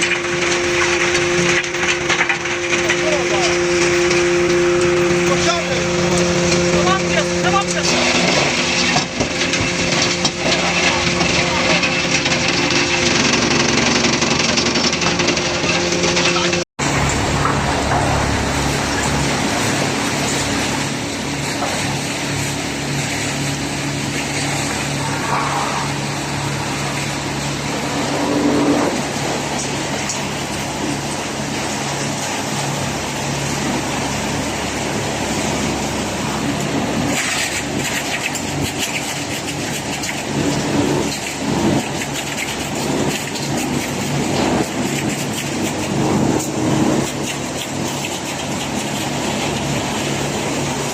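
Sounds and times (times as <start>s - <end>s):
wood-crushing machinery grinding: 0.0s - 50.9s.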